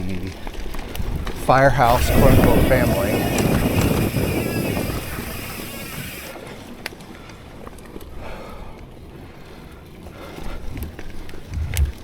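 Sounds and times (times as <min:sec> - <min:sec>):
bike clicks and rattles: 0:00.0 - 0:12.0
tyres rumbling on dirt trail: 0:00.0 - 0:12.0.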